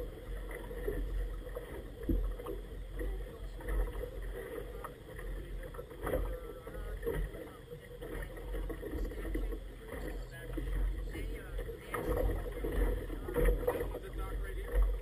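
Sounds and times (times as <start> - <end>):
water lapping and splashing: 0.0 - 15.0.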